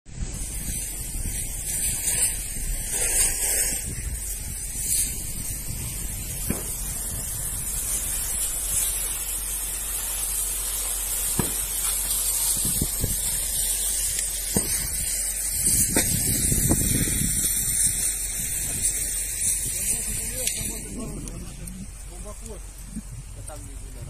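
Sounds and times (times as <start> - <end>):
burning debris cracking and popping: 0.1 - 24.0
hiss of water spray and steam: 0.2 - 24.0.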